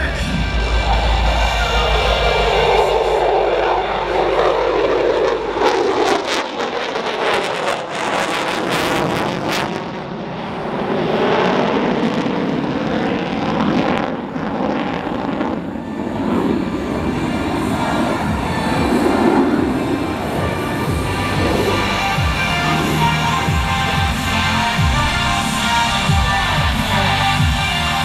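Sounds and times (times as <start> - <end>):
crackling jet roar: 0.0 - 28.0
jet engine roar: 0.0 - 28.0.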